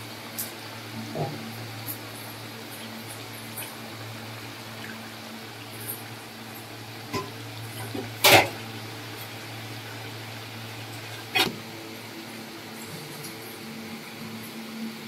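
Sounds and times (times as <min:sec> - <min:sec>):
chicken simmering in a pan: 0:00.0 - 0:15.0.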